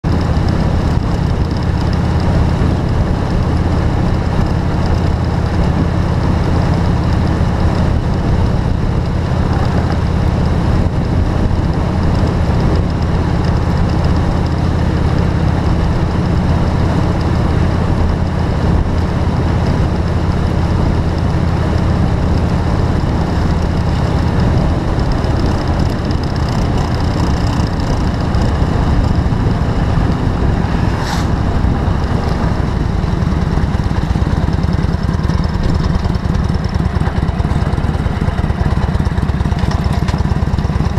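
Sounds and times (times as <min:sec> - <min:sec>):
vehicle engine and road drone: 0:00.0 - 0:40.9.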